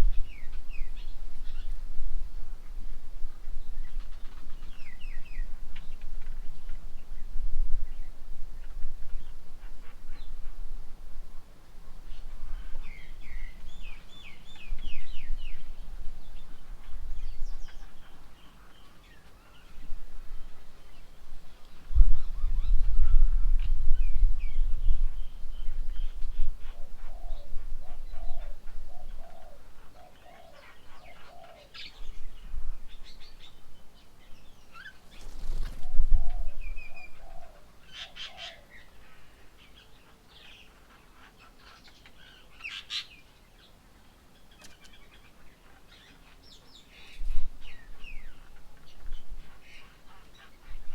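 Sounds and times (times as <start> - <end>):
low repeated bird notes: 0.0 - 40.8
small birds chirping: 0.0 - 50.9.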